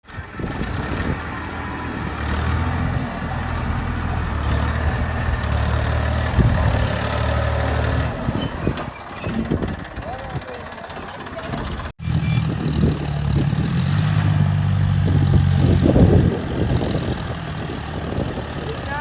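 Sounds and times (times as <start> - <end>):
heavy diesel machinery droning: 0.0 - 19.0.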